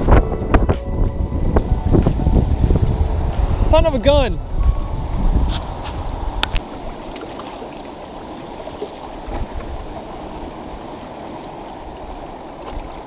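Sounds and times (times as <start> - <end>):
river water rushing: 2.2 - 13.0.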